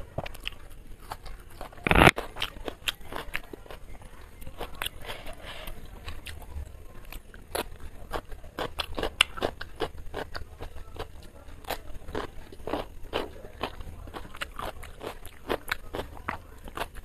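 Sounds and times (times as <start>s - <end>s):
cucumber crunching: 0.1s - 5.0s, 6.0s - 17.0s.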